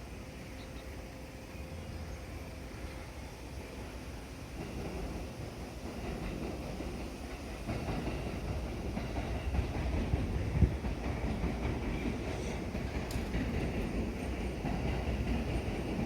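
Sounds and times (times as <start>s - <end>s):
train wheels clattering over rails: 2.3s - 16.0s.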